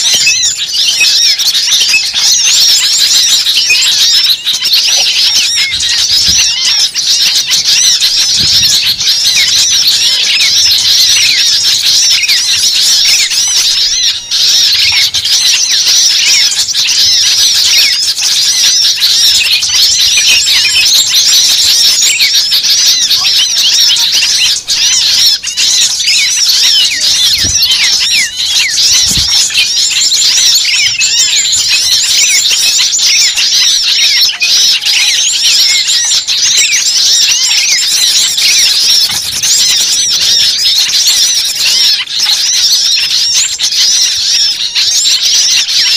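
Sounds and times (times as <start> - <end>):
chorus of small birds chirping: 0.0 - 45.9.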